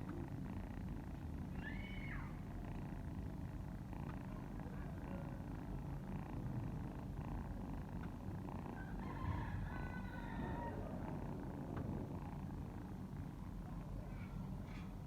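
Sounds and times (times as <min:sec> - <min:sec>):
cat purring: 0:00.0 - 0:01.6, 0:02.4 - 0:09.6, 0:10.3 - 0:15.0.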